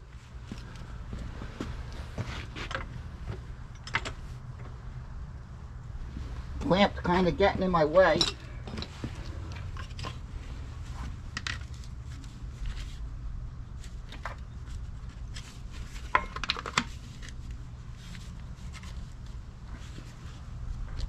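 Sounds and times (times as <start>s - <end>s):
steady low rumble: 0.0s - 16.2s, 17.0s - 21.0s.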